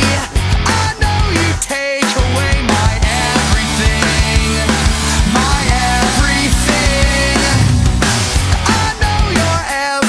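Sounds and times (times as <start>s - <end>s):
loud rock music: 0.0s - 10.0s
steady drum beat: 0.0s - 10.0s.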